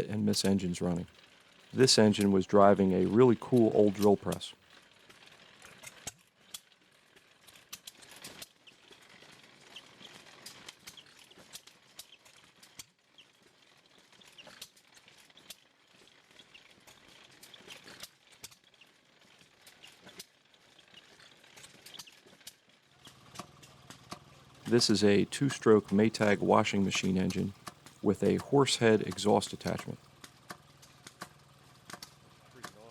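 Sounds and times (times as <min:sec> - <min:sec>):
engine mechanical clicking and clatter: 0:02.0 - 0:24.7, 0:29.1 - 0:32.9.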